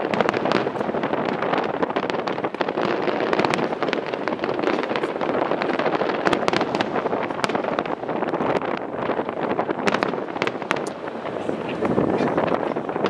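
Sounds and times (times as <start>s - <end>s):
distant fireworks crackling: 0.0s - 13.0s
steady rushing noise: 0.0s - 13.0s.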